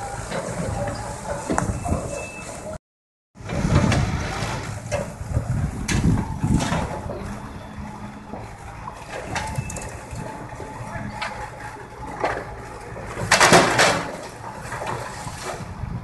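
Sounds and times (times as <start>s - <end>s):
excavator rumbling: 0.0s - 2.8s, 3.4s - 16.0s.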